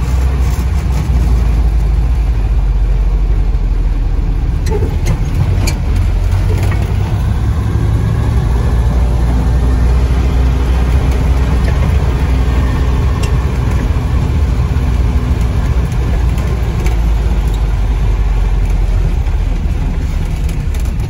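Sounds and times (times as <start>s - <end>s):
car engine running while driving: 0.0s - 21.0s.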